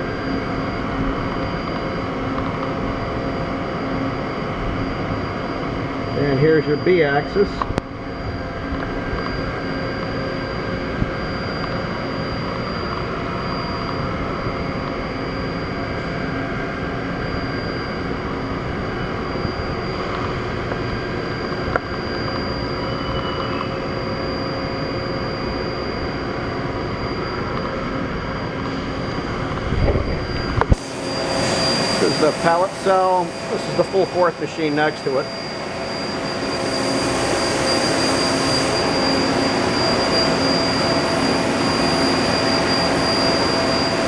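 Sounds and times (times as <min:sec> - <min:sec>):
machine mechanical hum: 0:00.0 - 0:44.0
machine whining tones: 0:00.0 - 0:44.0.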